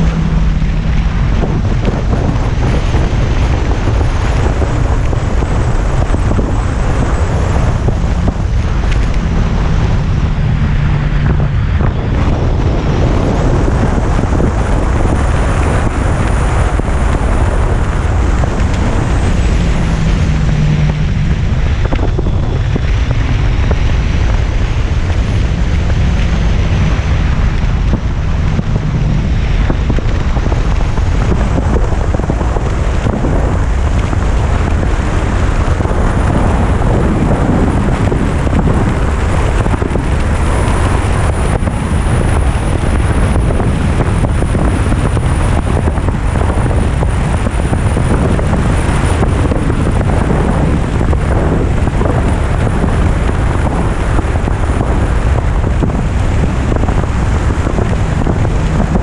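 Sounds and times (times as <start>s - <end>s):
motorcycle engine: 0.0s - 59.0s
wind rushing over microphone: 0.0s - 59.0s.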